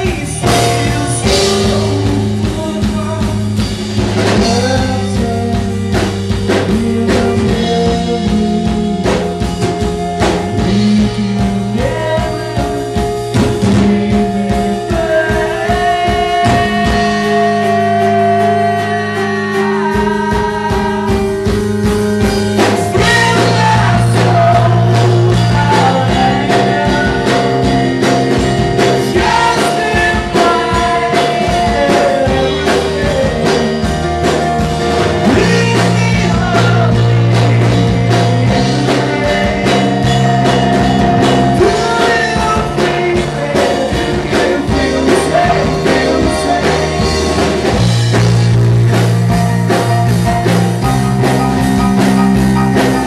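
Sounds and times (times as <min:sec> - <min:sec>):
person singing: 0:00.0 - 0:21.8, 0:22.6 - 0:48.2
live rock band playing: 0:00.0 - 0:53.0
low bass notes: 0:00.0 - 0:53.0.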